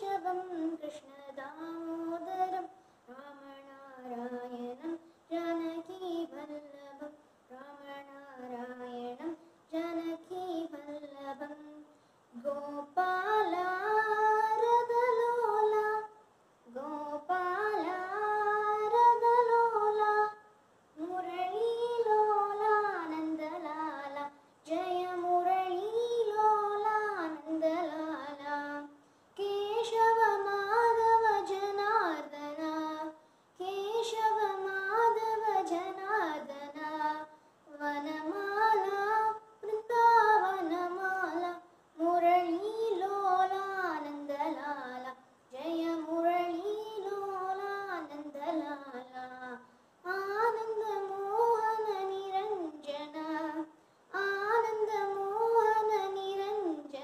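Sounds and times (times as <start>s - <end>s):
girl singing devotional song: 0.0s - 57.0s.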